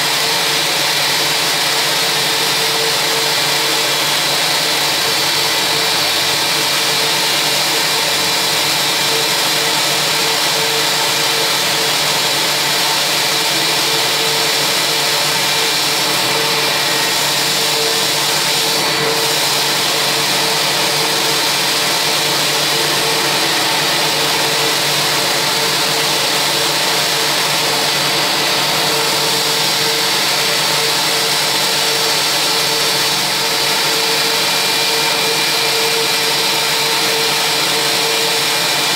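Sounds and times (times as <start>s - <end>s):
jet turbine whine and hiss: 0.0s - 38.9s.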